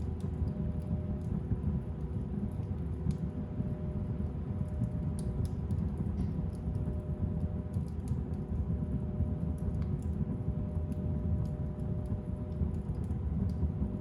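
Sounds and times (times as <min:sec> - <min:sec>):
fire crackling and popping: 0:00.0 - 0:14.0
fire flames rumbling: 0:00.0 - 0:14.0.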